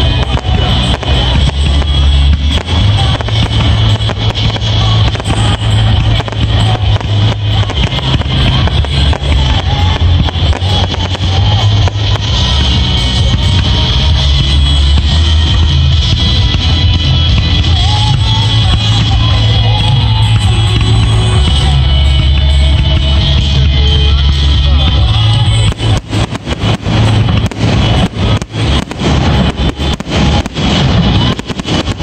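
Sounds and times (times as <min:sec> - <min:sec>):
distorted loud bass music: 0:00.0 - 0:32.0
fireworks bangs: 0:00.0 - 0:32.0.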